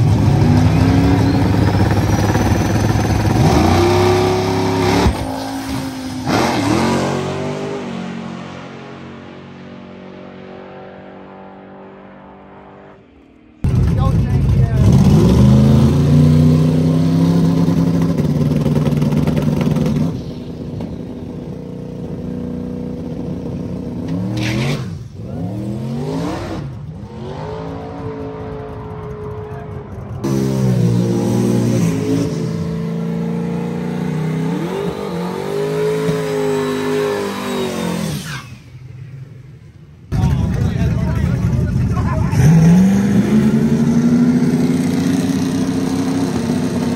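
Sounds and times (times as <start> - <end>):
drag race engines revving: 0.0 - 39.4, 40.1 - 46.9.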